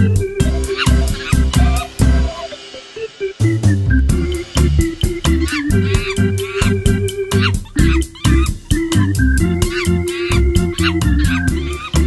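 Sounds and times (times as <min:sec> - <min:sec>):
funky music with drums and bass: 0:00.0 - 0:02.7, 0:03.4 - 0:12.0.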